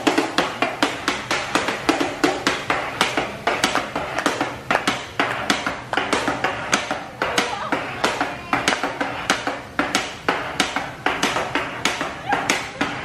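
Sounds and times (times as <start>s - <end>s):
metal spatulas rapping on hotplate: 0.0s - 13.0s.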